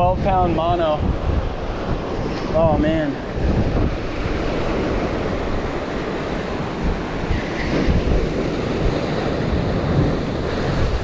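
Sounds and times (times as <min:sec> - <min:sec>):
surf breaking over rocks: 0:00.0 - 0:11.0
wind buffeting microphone: 0:00.0 - 0:11.0.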